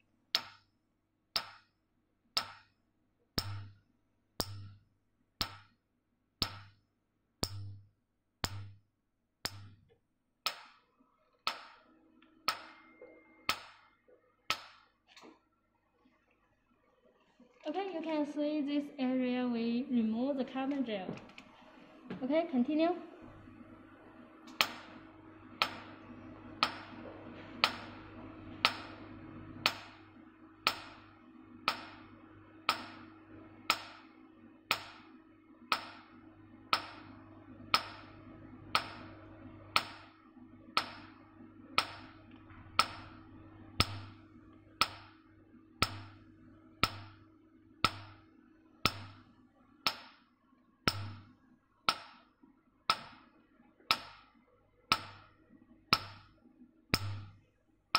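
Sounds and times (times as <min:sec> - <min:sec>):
machine low hum: 0:00.0 - 0:57.9.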